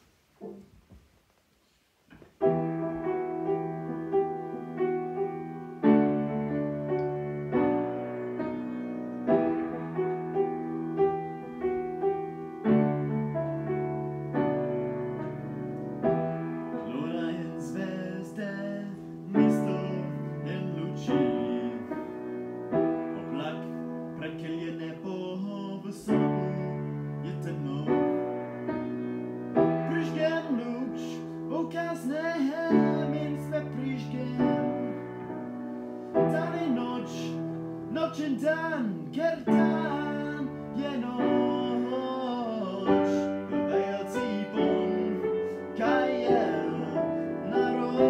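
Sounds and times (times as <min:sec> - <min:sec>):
piano chords: 0:02.1 - 0:48.0.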